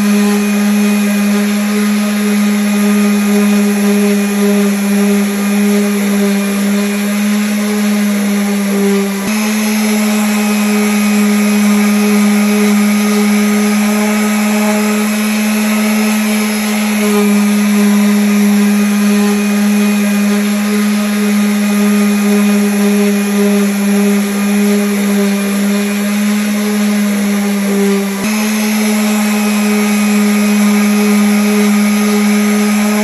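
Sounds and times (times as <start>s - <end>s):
electric sander on wood: 0.0s - 33.0s.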